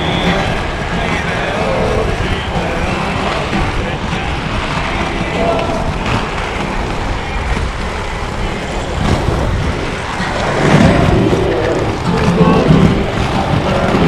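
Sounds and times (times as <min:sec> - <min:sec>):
skate wheels rolling on stone: 0:00.0 - 0:14.0.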